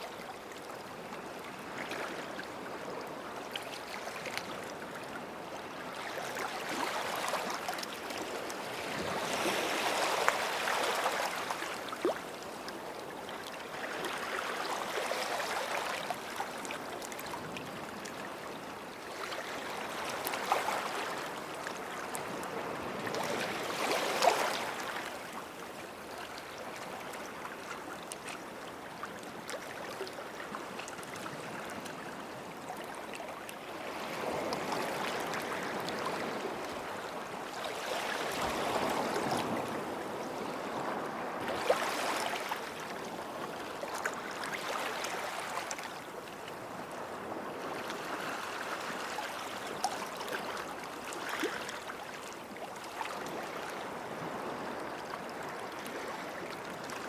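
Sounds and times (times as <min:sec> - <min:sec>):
waves washing on a beach: 0:00.0 - 0:57.0.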